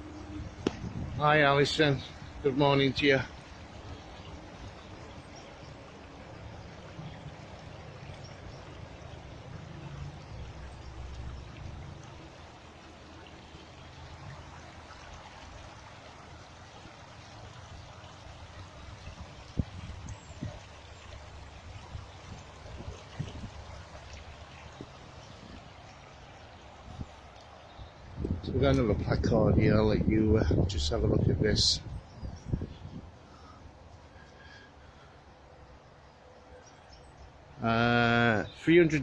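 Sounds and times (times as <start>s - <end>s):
stream water trickling: 0.0s - 39.0s.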